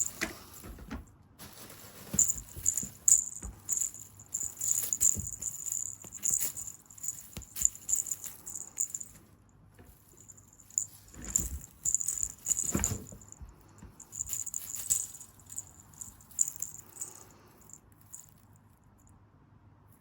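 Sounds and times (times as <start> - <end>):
light jingling rattle: 0.0 - 0.9, 1.5 - 9.3, 9.9 - 18.5.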